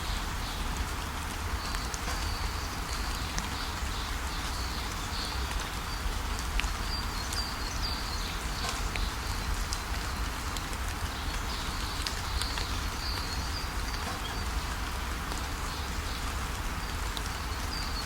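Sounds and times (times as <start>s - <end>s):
small birds chirping: 1.5s - 18.0s.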